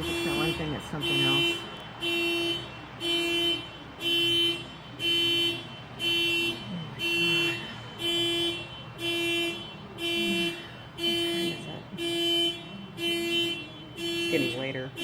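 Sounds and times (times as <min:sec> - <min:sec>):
car alarm horn honking: 0:00.0 - 0:15.0.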